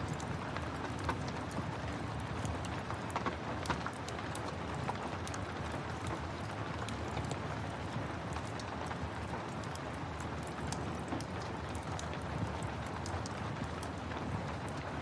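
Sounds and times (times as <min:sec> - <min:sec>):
steady rain: 0:00.0 - 0:15.0
wood fire crackling: 0:00.1 - 0:14.9.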